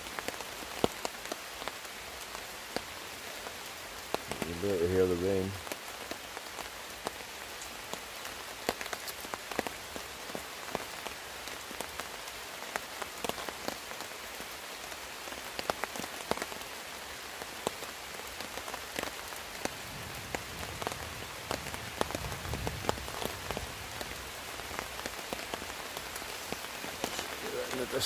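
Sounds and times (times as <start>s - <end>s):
light rain falling: 0.0s - 28.0s.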